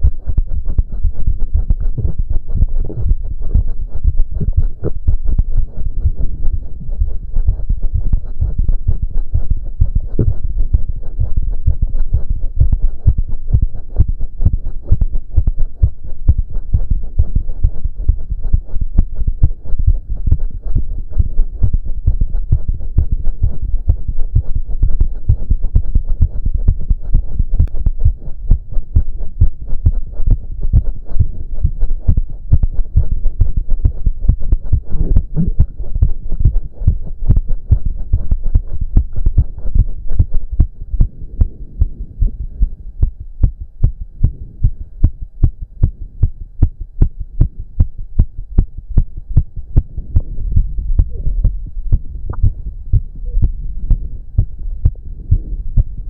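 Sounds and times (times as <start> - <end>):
fast heartbeat thumps: 0.0 - 56.0.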